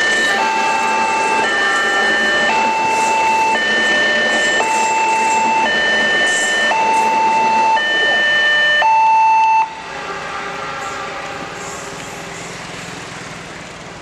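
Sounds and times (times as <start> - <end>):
two-tone crossing alarm: 0.0 - 11.8
vehicle noise: 0.0 - 14.0.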